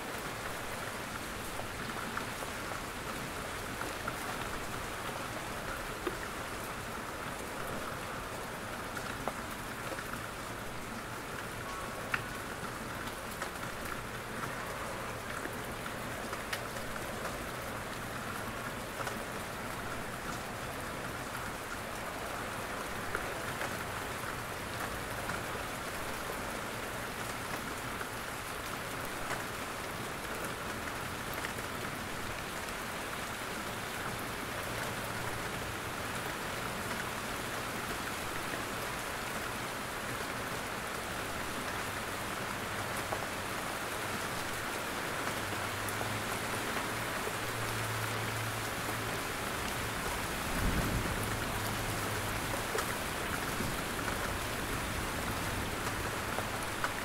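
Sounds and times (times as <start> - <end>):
steady rain through trees: 0.0 - 57.0.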